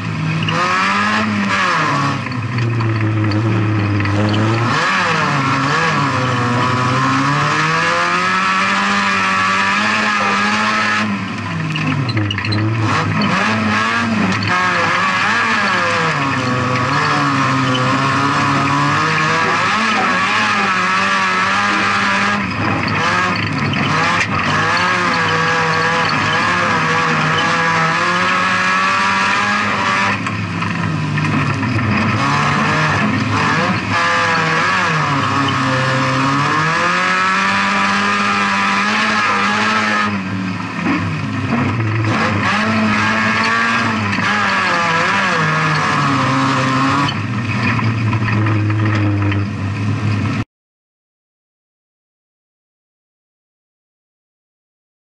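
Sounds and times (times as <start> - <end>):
race car engine revving: 0.0 - 50.4.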